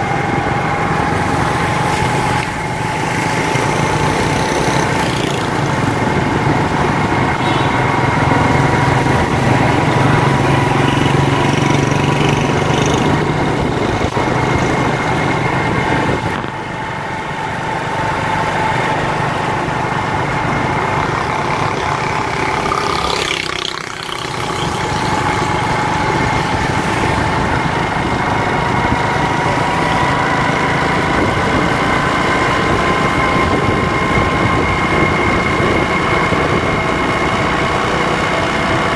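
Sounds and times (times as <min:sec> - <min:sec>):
steady whine: 0:00.0 - 0:38.0
motorcycle engine running: 0:00.0 - 0:38.9.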